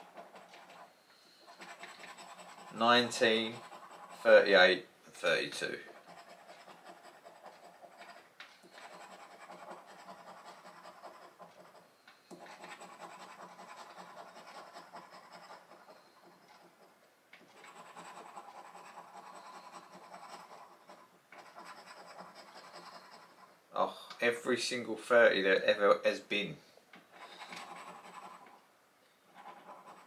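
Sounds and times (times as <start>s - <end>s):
scratchcard scraping: 0.0s - 4.7s, 5.6s - 23.6s, 27.1s - 28.6s, 29.3s - 30.0s.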